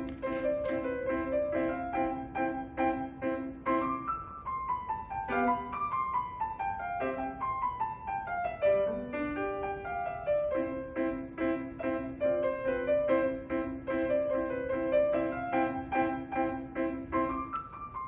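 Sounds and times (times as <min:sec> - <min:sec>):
acoustic piano piece: 0:00.0 - 0:18.0.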